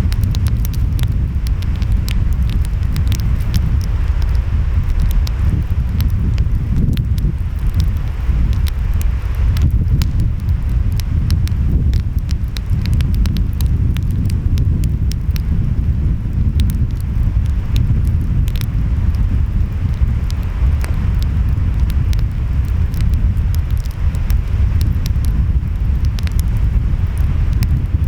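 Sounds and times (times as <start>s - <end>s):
wind: 0.0s - 28.0s
wood fire crackling and popping: 0.0s - 28.0s.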